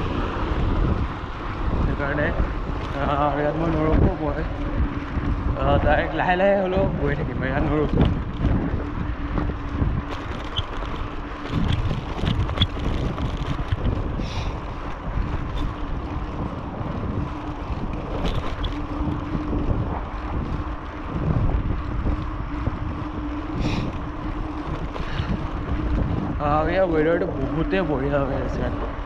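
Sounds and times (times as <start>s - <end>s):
tyres rumbling on rough road: 0.0s - 29.0s
wind buffeting microphone: 0.0s - 29.0s.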